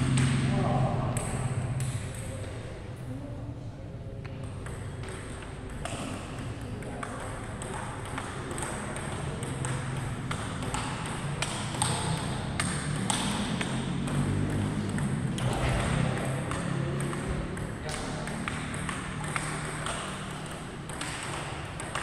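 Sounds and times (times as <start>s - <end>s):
table tennis ball clicking: 4.4s - 22.0s.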